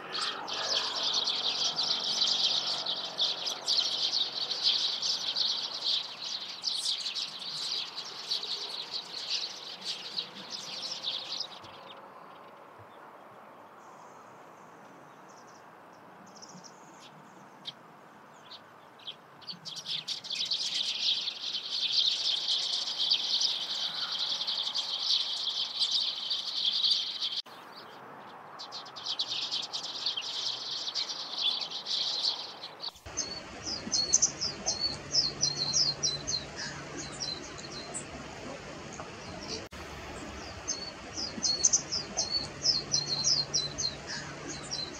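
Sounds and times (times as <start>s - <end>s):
small birds chirping: 0.0s - 13.1s, 13.8s - 44.9s.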